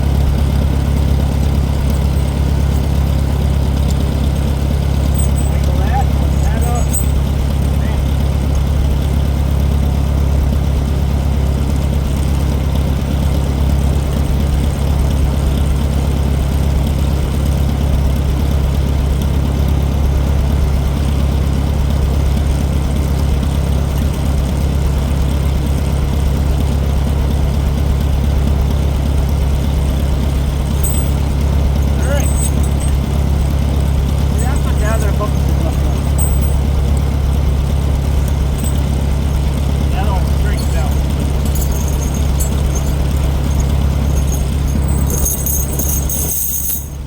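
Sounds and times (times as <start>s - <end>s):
tractor engine idling: 0.0s - 47.0s.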